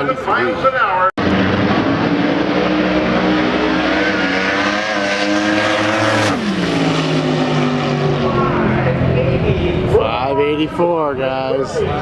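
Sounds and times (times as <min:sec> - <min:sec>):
drag racing car engine passing: 0:01.2 - 0:11.2.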